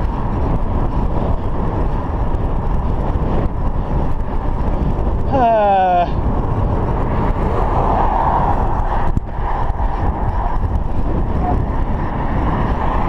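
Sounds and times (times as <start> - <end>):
bicycle road noise: 0.0 - 13.0
wind rushing: 0.0 - 13.0.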